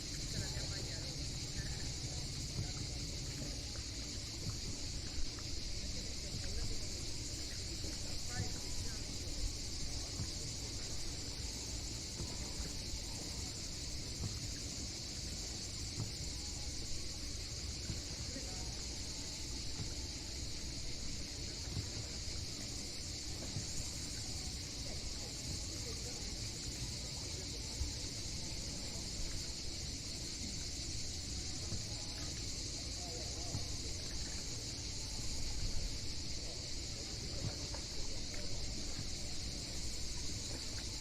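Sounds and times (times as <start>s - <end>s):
insect chorus: 0.0s - 41.0s.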